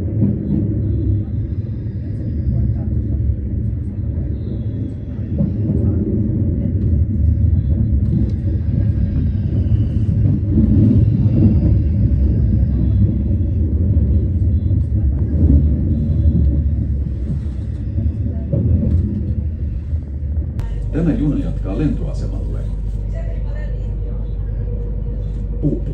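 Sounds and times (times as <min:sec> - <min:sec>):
electric train rumbling: 0:00.0 - 0:25.9.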